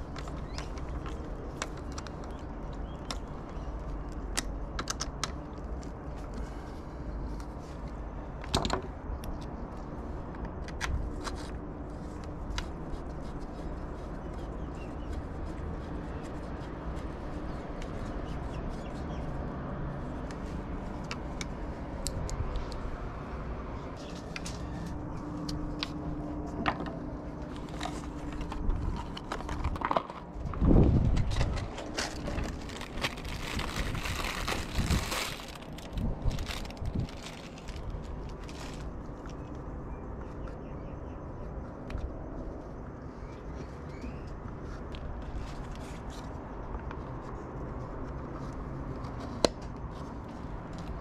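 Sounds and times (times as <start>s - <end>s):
low background hum: 0.0s - 51.0s.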